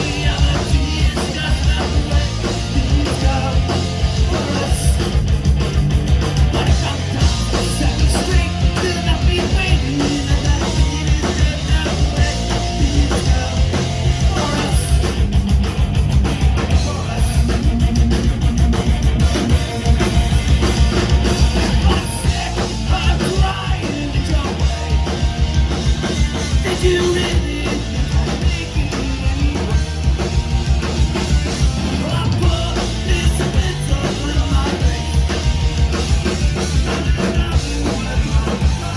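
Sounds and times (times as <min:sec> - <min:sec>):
pounding drum kit: 0:00.0 - 0:38.9
punk rock band playing: 0:00.0 - 0:38.9.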